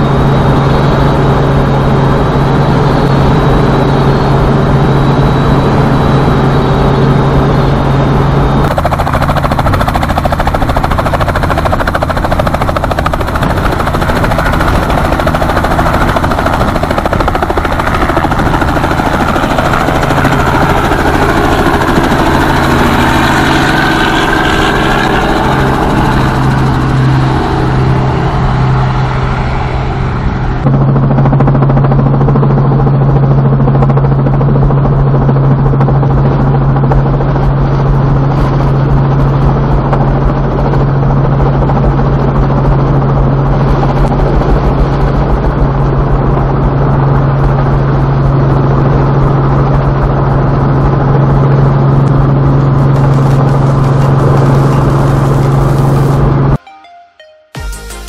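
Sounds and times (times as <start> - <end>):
helicopter cabin drone: 0.0 - 56.6
helicopter flying: 0.0 - 56.6.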